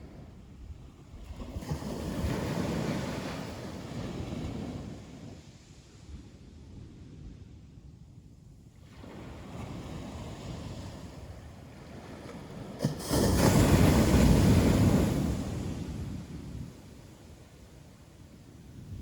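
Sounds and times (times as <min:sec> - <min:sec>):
ocean waves breaking on beach: 0:00.0 - 0:07.2, 0:08.8 - 0:19.0.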